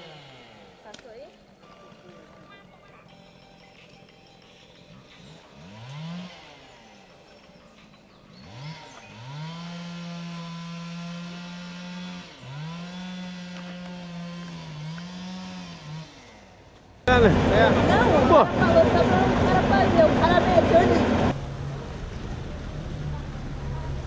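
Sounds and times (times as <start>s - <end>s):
small engine revving: 0.0s - 3.3s, 4.5s - 21.4s.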